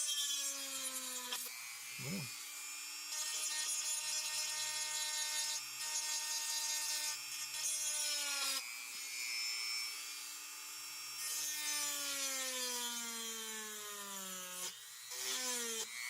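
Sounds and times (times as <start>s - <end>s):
rotary tool whining and grinding: 0.0s - 16.0s.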